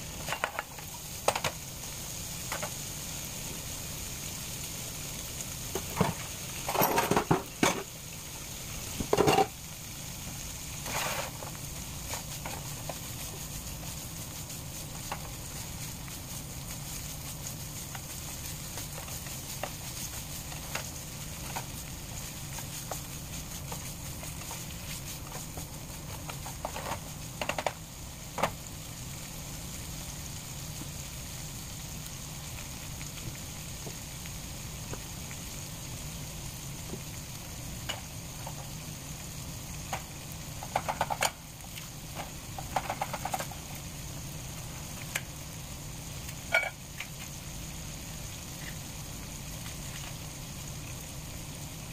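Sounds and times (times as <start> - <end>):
sausage sizzling in a skillet: 0.0 - 51.9.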